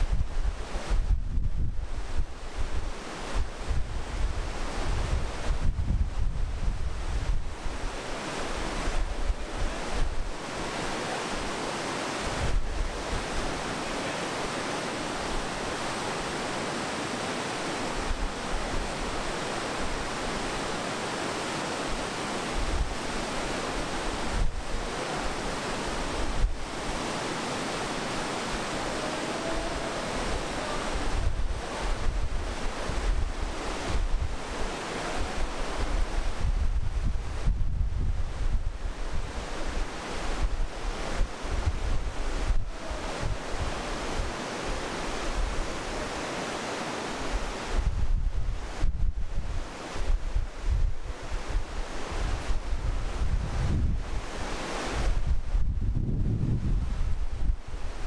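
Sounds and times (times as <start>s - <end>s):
wind buffeting microphone: 0.0s - 10.9s, 12.2s - 13.8s, 22.0s - 46.4s, 47.1s - 58.0s
whitewater river rushing: 1.8s - 37.5s, 38.1s - 55.4s, 56.8s - 58.0s.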